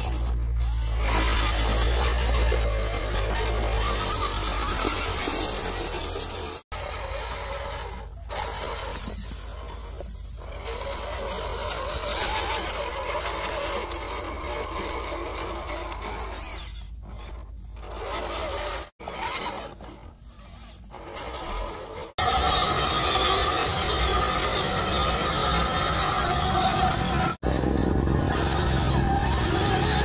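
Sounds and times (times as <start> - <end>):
electric motor and gears whirring: 0.0 - 30.0.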